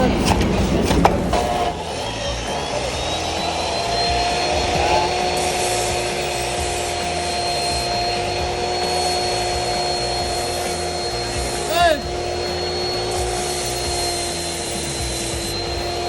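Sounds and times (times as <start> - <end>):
motor whining over rushing noise: 0.0 - 16.0.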